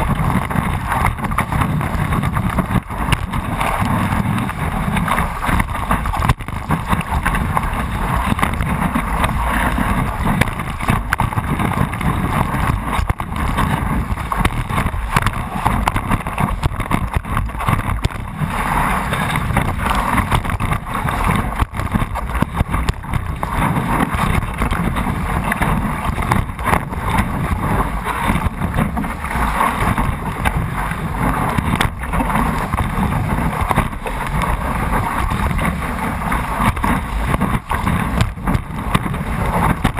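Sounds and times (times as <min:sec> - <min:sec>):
water rushing and splashing: 0:00.0 - 0:39.9
wind buffeting microphone: 0:00.0 - 0:39.9.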